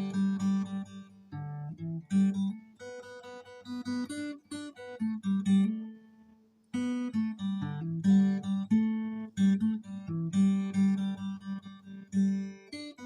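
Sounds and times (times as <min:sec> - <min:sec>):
acoustic guitar picked notes: 0:00.0 - 0:13.0.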